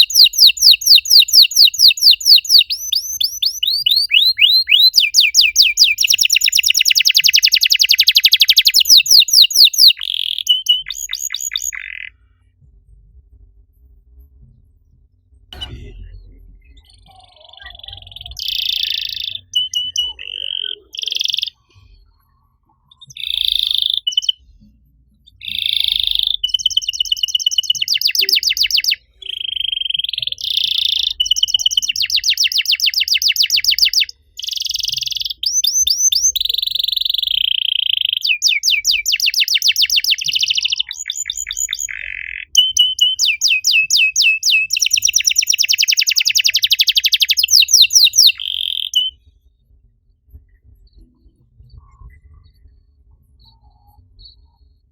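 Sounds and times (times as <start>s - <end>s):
canary singing trills: 0.0s - 12.2s, 16.7s - 24.6s, 25.2s - 49.2s.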